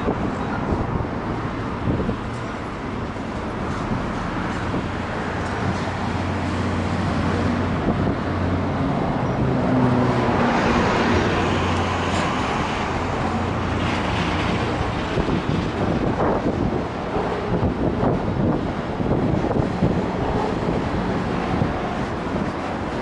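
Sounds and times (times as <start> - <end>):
train engine drone: 0.0 - 23.0
train rolling rumble: 0.0 - 23.0.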